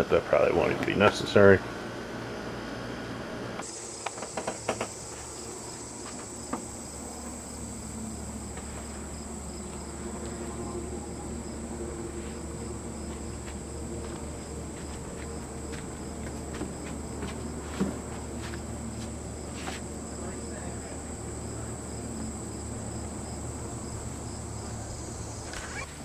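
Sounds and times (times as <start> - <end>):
crickets chirping: 3.6 - 26.0.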